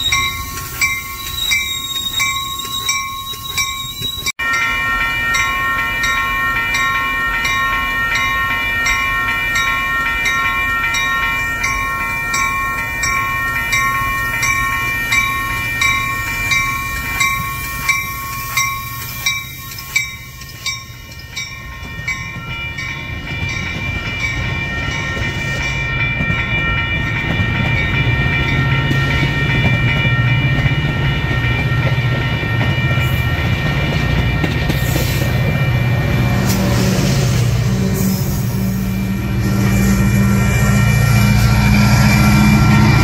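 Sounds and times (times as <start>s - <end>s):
train rumble and wheel noise: 0.0s - 43.0s.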